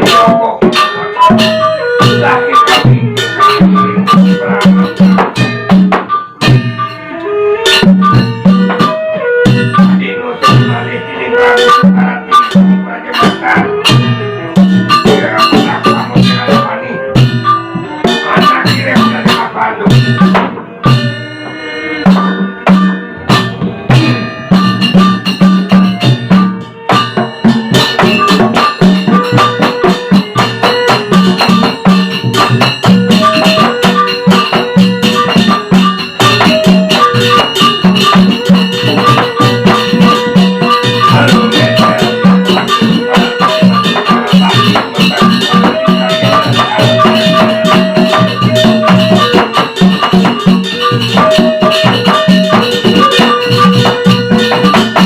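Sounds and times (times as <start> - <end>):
small cymbals clashing: 0.0 - 10.8, 11.4 - 55.0
drum strokes: 0.0 - 55.0
held melodic line: 0.0 - 55.0.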